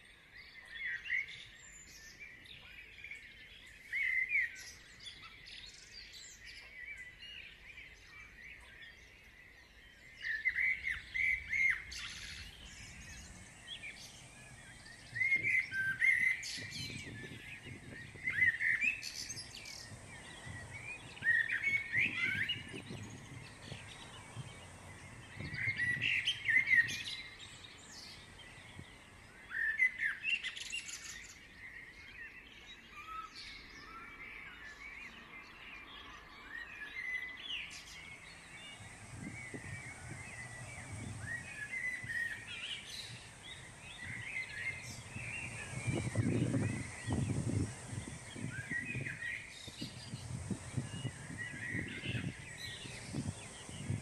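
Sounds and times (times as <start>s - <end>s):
songbird twittering: 0.0s - 54.0s.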